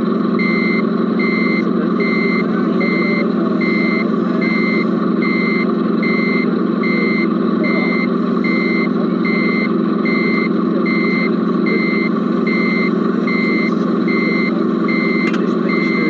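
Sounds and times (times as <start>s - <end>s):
low engine drone: 0.0s - 16.0s
reversing beeper short beeps: 0.4s - 16.0s.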